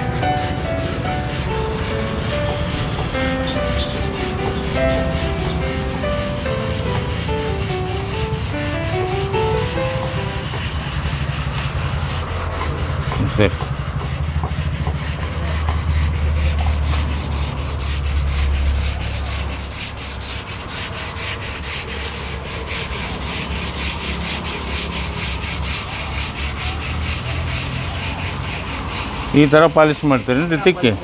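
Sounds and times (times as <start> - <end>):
sandpaper rubbing stone: 0.0 - 31.0.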